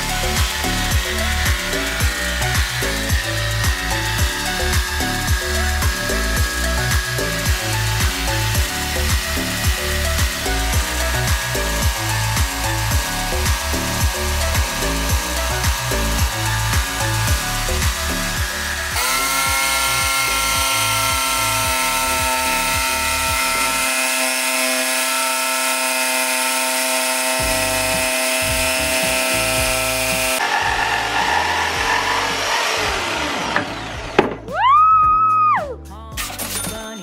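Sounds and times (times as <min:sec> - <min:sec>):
jigsaw cutting wood: 0:00.0 - 0:34.5.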